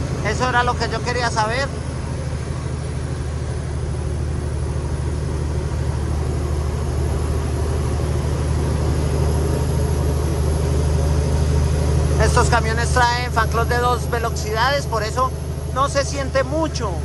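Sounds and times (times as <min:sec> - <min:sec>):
diesel truck engine running: 0:00.0 - 0:17.0
engine cooling fan: 0:00.0 - 0:17.0.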